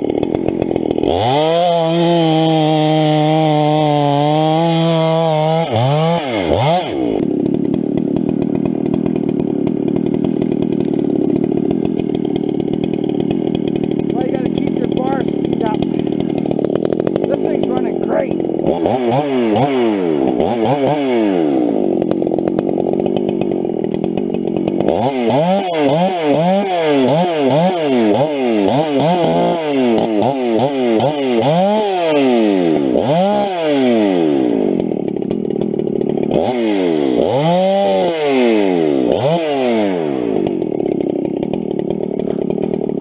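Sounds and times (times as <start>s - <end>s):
chainsaw cutting logs: 0.0s - 43.0s.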